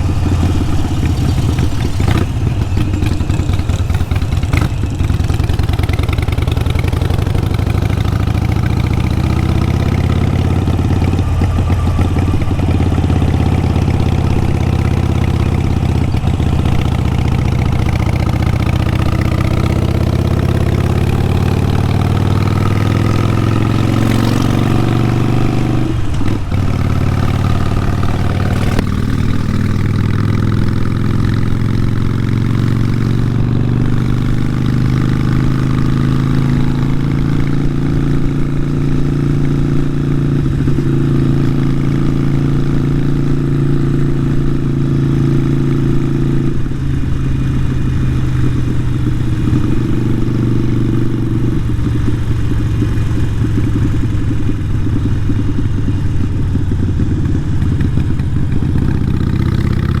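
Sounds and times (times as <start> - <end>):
motorcycle engine running loud: 0.0 - 60.0.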